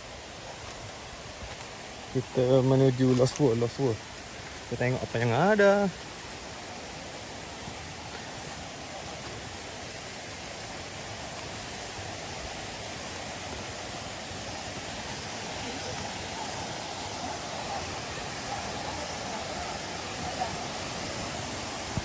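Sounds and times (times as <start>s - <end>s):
waterfall and stream rushing: 0.0s - 22.0s.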